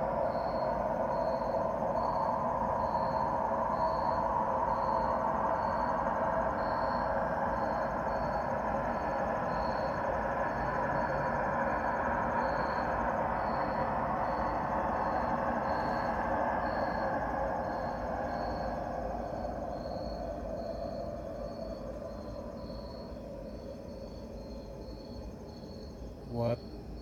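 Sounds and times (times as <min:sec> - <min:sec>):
droning rumble from the sky: 0:00.0 - 0:25.5.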